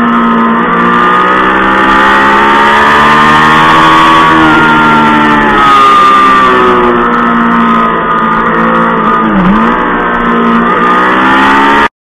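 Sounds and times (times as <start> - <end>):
motorcycle engine at high revs: 0.0 - 11.9.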